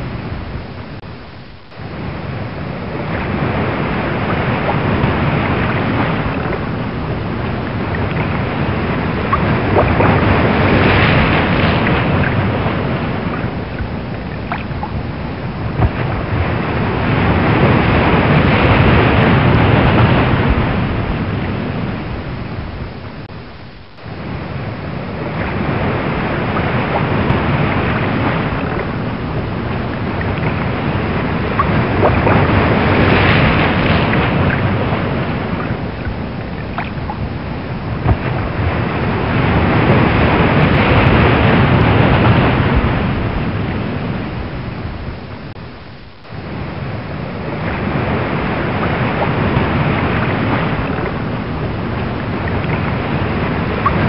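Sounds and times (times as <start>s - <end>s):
waves rolling and breaking: 0.0s - 54.0s
wind: 0.0s - 54.0s.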